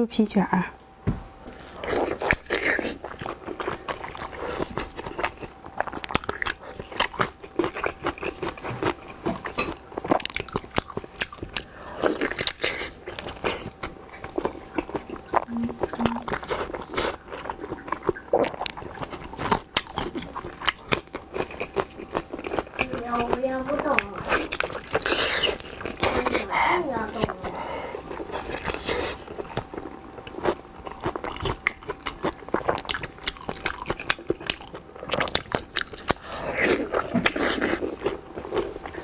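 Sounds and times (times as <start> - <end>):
person chewing and biting: 1.8 - 22.9, 24.2 - 26.2, 28.1 - 39.0.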